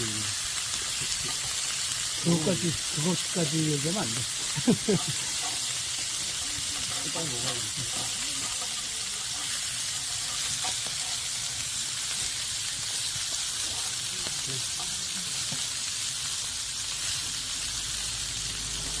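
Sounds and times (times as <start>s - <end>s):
pork sizzling on a griddle: 0.0s - 19.0s.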